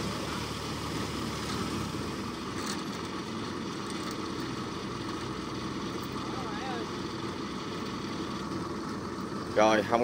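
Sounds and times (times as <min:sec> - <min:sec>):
combine harvester engine rumble: 0:00.0 - 0:10.0.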